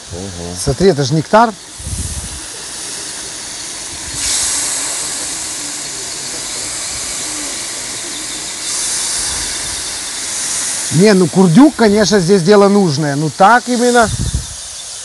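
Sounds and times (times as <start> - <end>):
meat sizzling in fat: 0.8 - 15.0.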